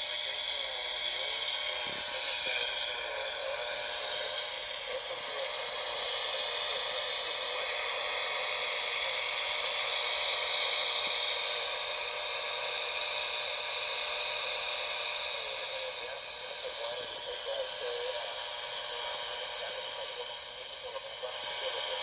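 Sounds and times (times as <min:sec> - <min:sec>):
shortwave radio static hissing: 0:00.0 - 0:22.0.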